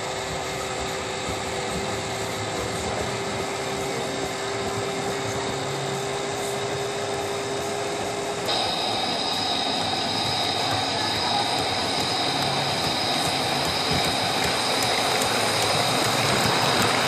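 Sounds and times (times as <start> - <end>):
small motor hum: 0.0 - 17.0.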